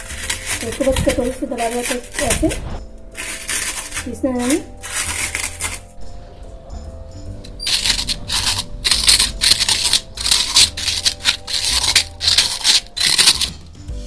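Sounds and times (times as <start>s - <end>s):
steel bowl crushing crunchy puffs: 0.0s - 6.0s, 7.5s - 13.7s.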